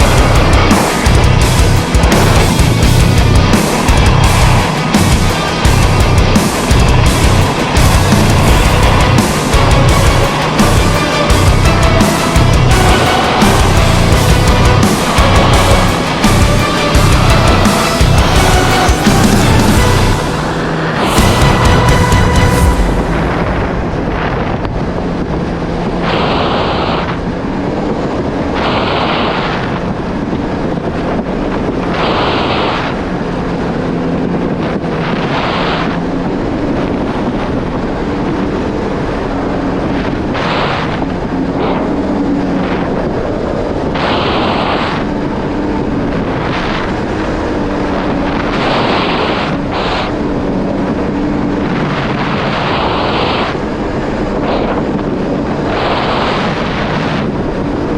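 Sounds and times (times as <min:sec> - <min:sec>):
watercraft engine running: 0:00.0 - 0:57.9
wind buffeting microphone: 0:00.0 - 0:57.9.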